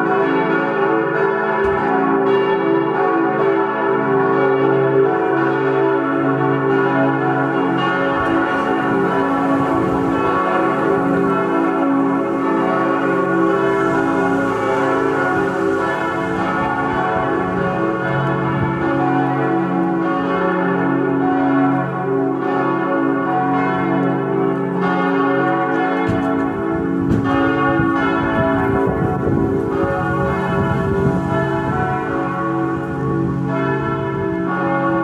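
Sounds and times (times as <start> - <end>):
church bells pealing: 0.0 - 35.0.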